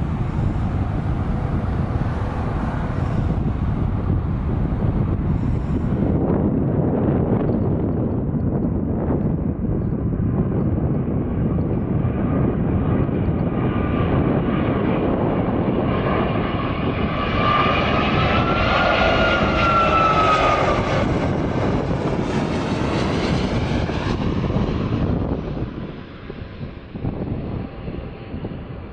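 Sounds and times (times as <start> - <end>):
jet airliner passing overhead: 0.0 - 28.9
whining fan tone: 0.0 - 28.9.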